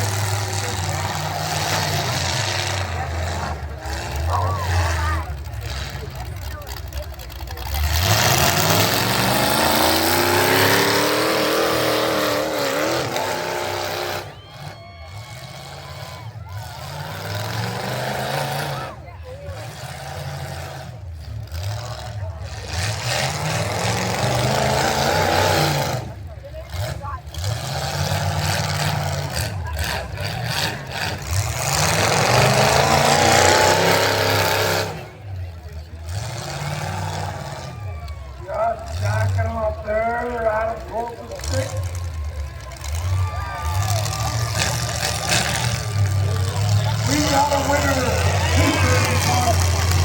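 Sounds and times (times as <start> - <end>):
truck engine at full throttle: 0.0 - 50.0.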